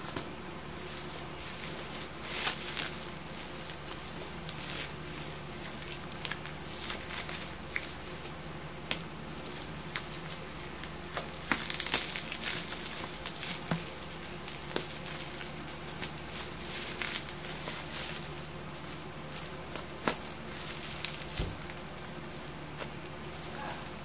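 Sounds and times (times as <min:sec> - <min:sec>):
packaging crinkling and rustling: 0:00.8 - 0:24.0.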